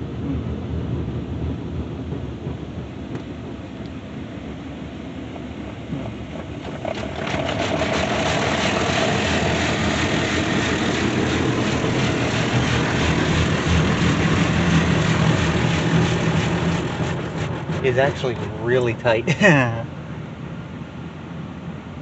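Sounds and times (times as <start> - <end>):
car wash rushing noise: 0.0 - 22.0
low machine hum: 0.0 - 22.0.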